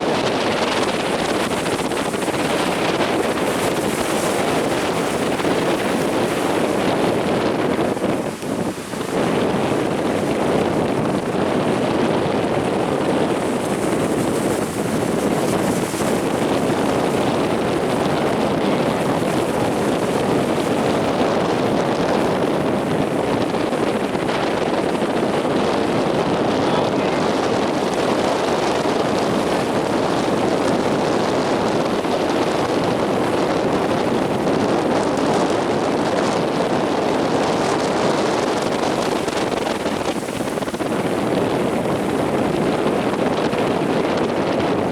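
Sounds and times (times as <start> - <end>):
heavy surf rushing: 0.0 - 44.9
wind buffeting microphone: 0.0 - 44.9.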